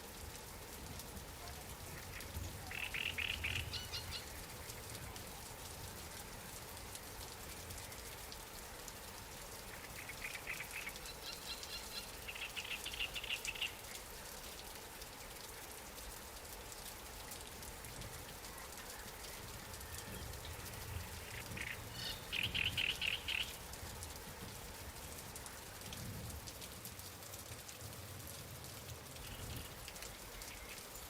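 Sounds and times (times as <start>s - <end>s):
light rain falling: 0.0s - 31.0s.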